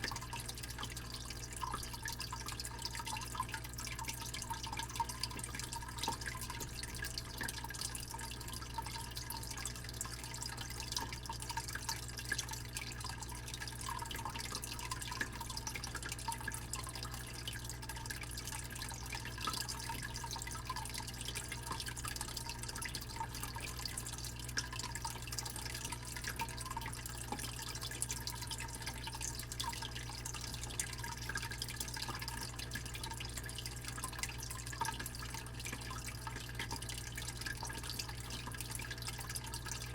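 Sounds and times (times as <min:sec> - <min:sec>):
aquarium pump humming: 0:00.0 - 0:39.9
water drips and splashes: 0:00.0 - 0:39.9
water trickling and bubbling: 0:00.0 - 0:39.9.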